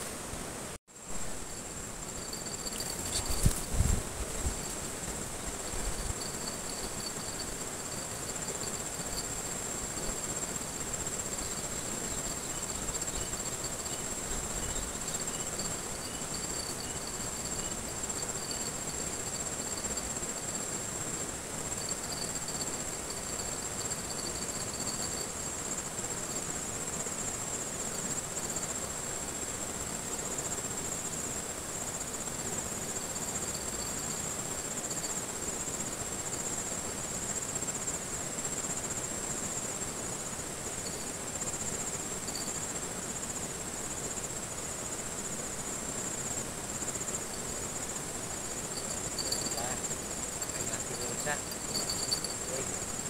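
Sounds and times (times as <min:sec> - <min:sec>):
insects trilling: 0:01.0 - 0:53.0.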